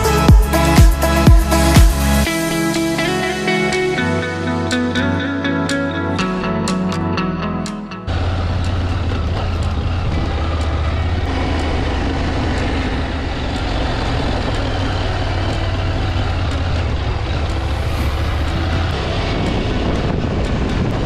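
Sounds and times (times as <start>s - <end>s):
motorcycle engine humming: 0.0s - 21.0s.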